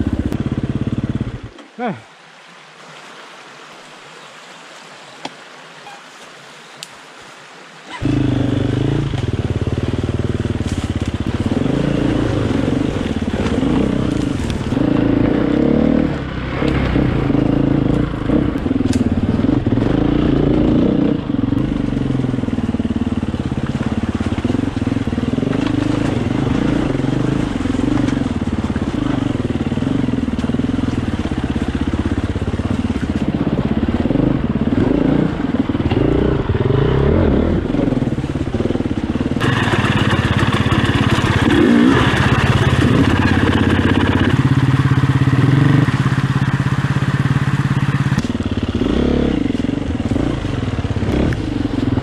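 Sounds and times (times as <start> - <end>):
motorcycle engine revving: 0.0 - 1.6, 7.9 - 52.0.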